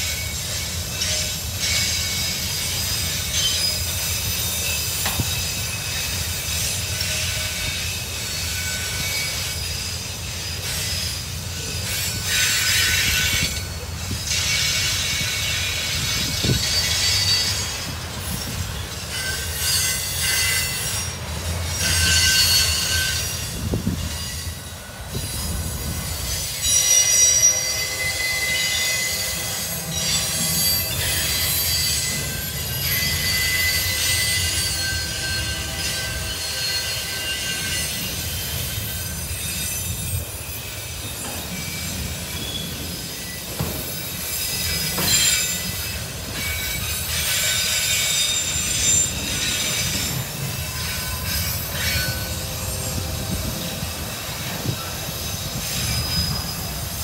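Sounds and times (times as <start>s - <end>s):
high-pitched wheel squeal: 0.0s - 57.0s
train wheels rumbling on rail: 0.0s - 57.0s.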